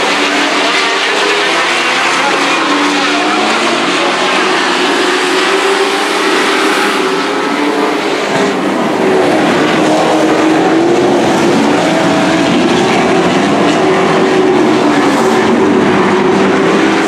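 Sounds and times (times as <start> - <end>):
racing truck engines: 0.0 - 17.0.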